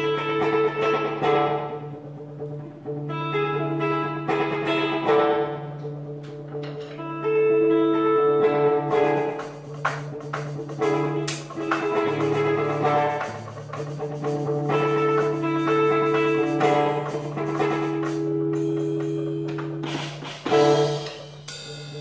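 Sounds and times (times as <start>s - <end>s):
guitar music: 0.0s - 22.0s.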